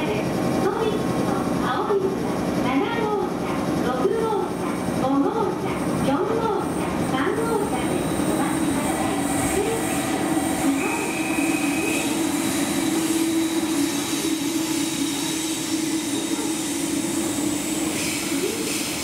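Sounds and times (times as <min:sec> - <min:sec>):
electric train rail hum: 0:00.0 - 0:19.0
freight train rolling past: 0:00.0 - 0:19.0.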